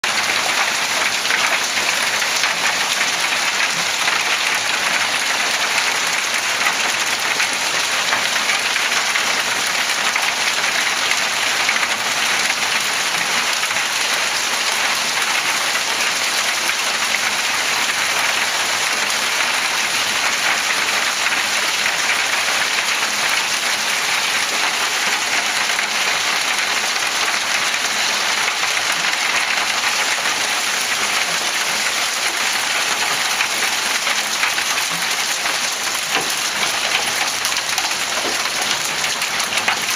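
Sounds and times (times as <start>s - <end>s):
hail and heavy rain falling: 0.0s - 39.9s.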